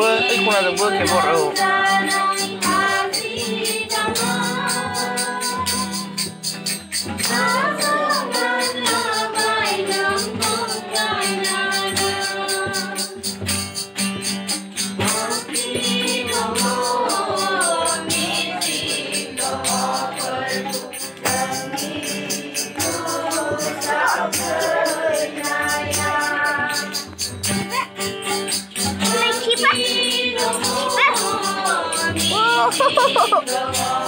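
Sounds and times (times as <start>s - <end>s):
women and children singing a hymn: 0.0s - 13.4s, 15.0s - 34.0s
acoustic guitar: 0.0s - 34.0s
rattling percussion beat: 0.0s - 34.0s.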